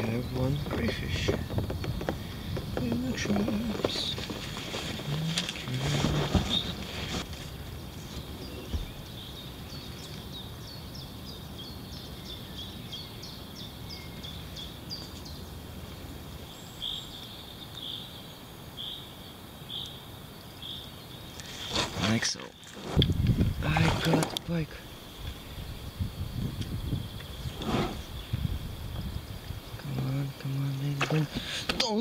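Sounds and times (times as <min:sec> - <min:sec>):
birds chirping: 0:00.0 - 0:32.0
steady outdoor hiss: 0:00.0 - 0:32.0.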